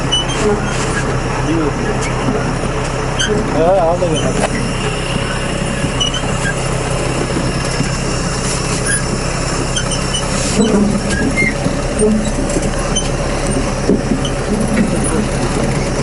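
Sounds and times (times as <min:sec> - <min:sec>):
planter running gear: 0:00.0 - 0:16.0
tractor engine running: 0:00.0 - 0:16.0.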